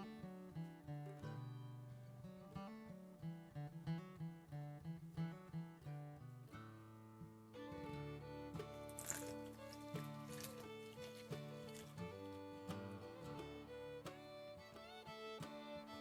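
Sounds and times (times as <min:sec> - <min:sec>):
plucked acoustic guitar music: 0:00.0 - 0:16.0.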